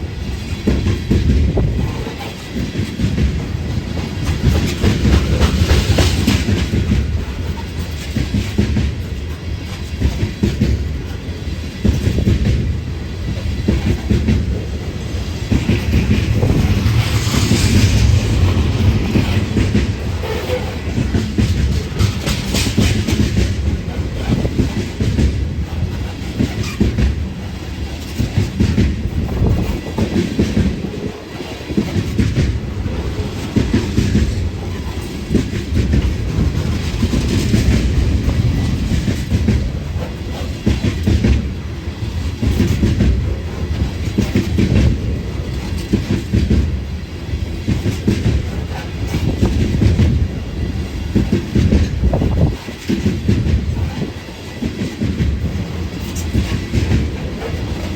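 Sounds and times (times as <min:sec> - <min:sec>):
wheels clacking over rail joints: 0:00.0 - 0:46.8
train cars rumbling past: 0:00.0 - 0:57.9.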